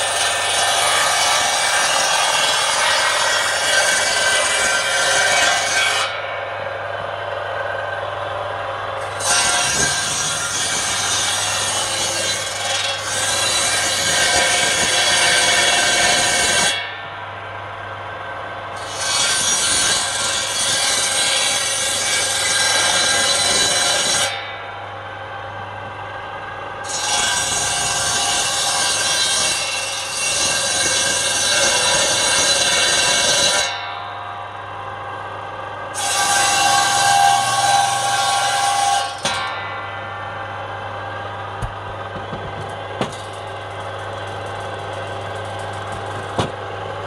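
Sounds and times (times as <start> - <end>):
circular saw ripping timber: 0.0 - 8.0, 8.9 - 17.0, 18.8 - 24.6, 26.8 - 33.9, 35.9 - 39.8, 41.6 - 46.8.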